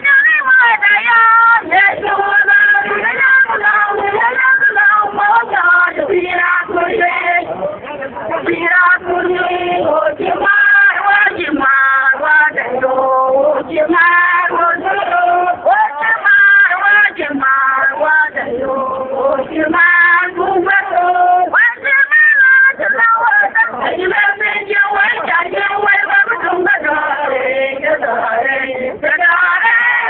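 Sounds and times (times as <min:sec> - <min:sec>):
woman singing through a megaphone: 0:00.0 - 0:30.0.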